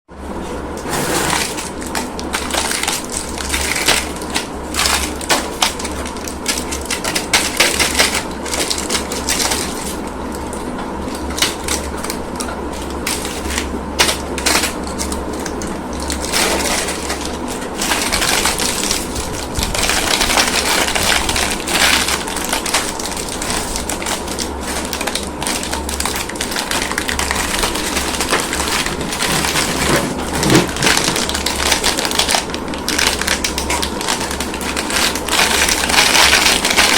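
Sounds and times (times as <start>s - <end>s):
plastic wrappers crinkling: 1.0s - 36.9s.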